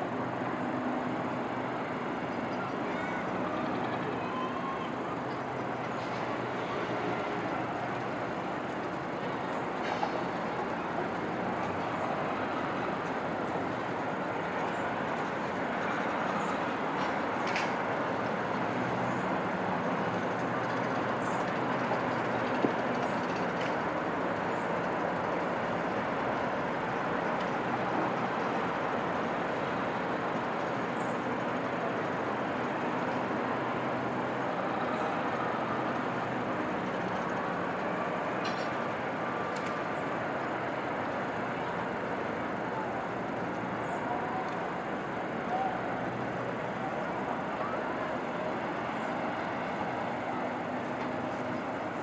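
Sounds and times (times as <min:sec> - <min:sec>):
distant city traffic: 0:00.0 - 0:52.0
train rumble: 0:00.0 - 0:52.0.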